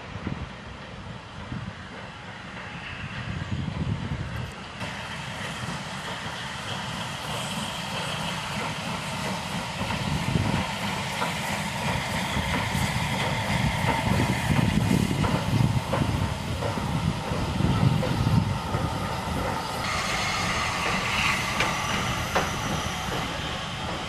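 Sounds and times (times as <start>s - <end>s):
steam train rumbling past: 0.0s - 24.0s.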